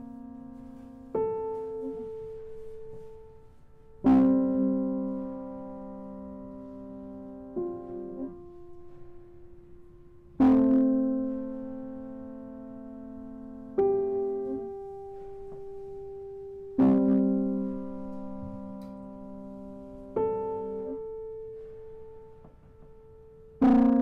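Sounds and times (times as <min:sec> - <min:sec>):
piano chords ringing: 0:00.0 - 0:24.0.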